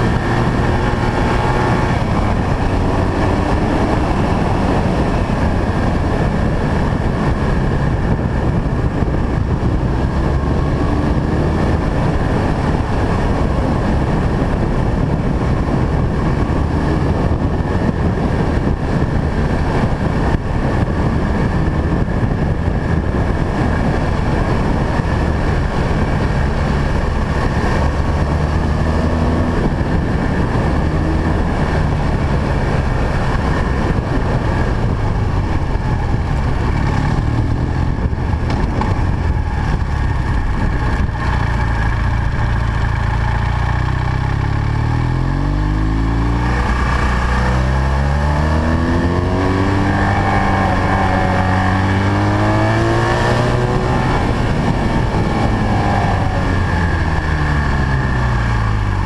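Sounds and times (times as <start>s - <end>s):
motorcycle engine running: 0.0s - 59.0s
wind rushing: 0.0s - 59.0s.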